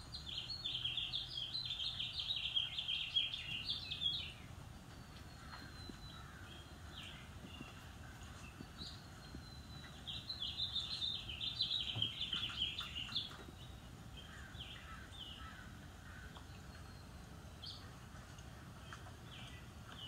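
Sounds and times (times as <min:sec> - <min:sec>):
low steady background hum: 0:00.0 - 0:20.0
songbirds chirping: 0:00.0 - 0:20.0.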